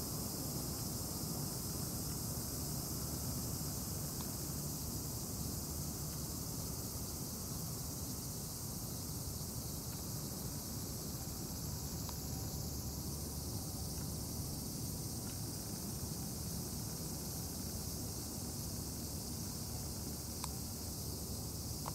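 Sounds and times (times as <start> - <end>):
insect chorus: 0.0 - 21.9.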